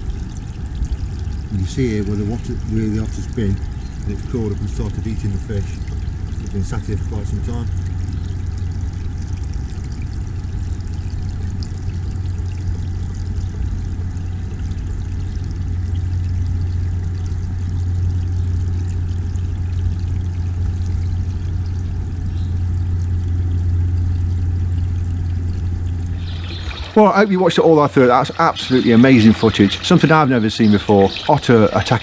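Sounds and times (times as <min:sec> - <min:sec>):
constant low hum: 0:00.0 - 0:32.0
pond water trickling: 0:00.0 - 0:32.0.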